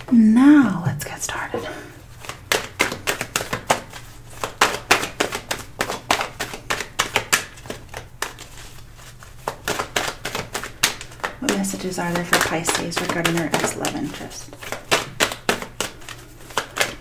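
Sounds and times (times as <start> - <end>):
cards being shuffled: 2.0 - 17.0.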